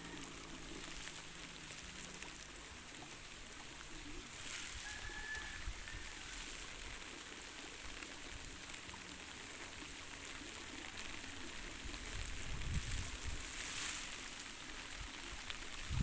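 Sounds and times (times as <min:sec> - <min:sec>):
rain falling: 0:00.0 - 0:16.0
rainwater running: 0:00.0 - 0:16.0.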